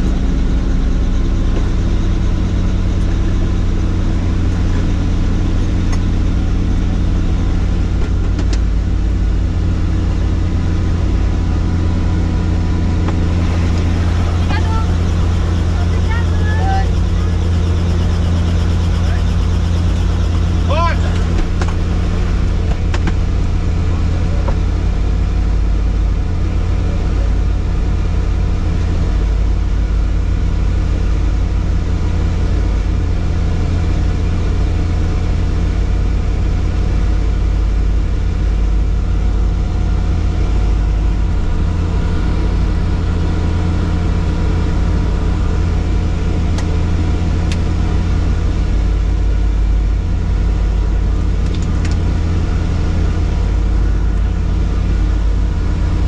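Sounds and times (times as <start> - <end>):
helicopter running: 0.0 - 56.0.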